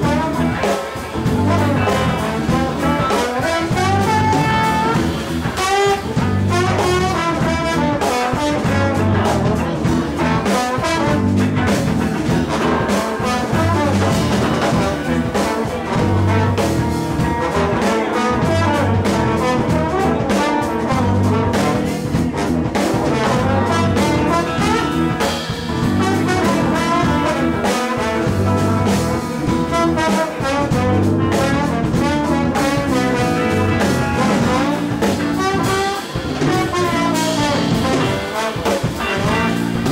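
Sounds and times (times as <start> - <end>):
drums: 0.0 - 39.9
electric guitars: 0.0 - 39.9
live jazz band playing: 0.0 - 39.9
saxophone: 0.0 - 39.9
trombone: 0.0 - 39.9.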